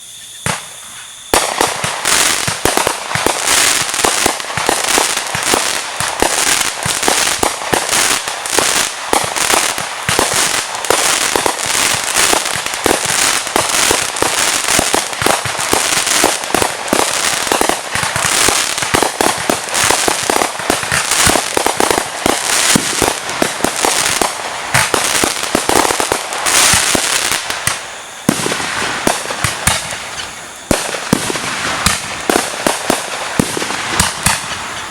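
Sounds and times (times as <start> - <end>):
fireworks and firecrackers popping: 0.0 - 34.9.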